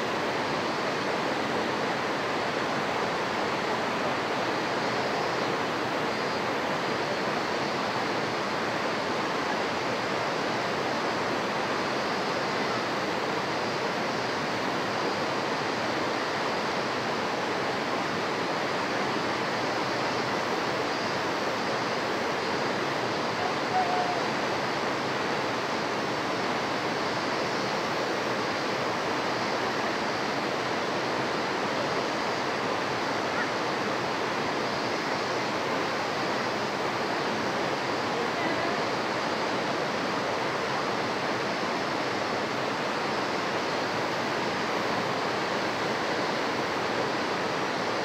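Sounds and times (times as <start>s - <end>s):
flowing water rushing: 0.0s - 48.0s.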